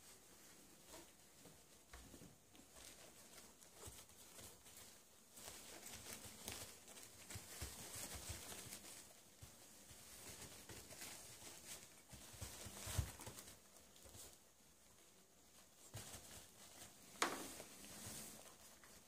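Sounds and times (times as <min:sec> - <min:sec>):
puppies rustling on blankets: 0:00.0 - 0:19.0.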